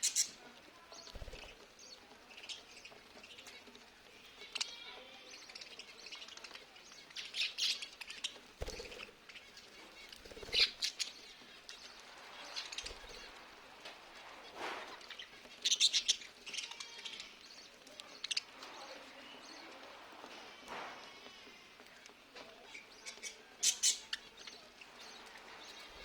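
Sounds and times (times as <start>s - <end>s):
lovebirds chirping: 0.0s - 26.0s.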